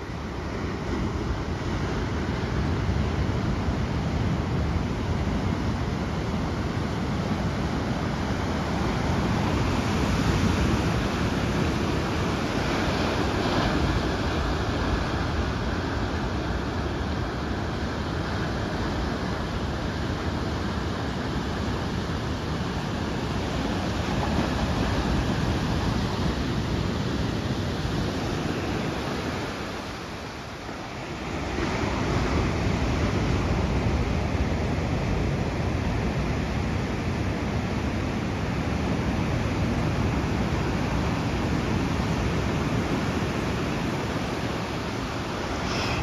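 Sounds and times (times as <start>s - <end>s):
ocean waves breaking on shore: 0.0s - 46.0s.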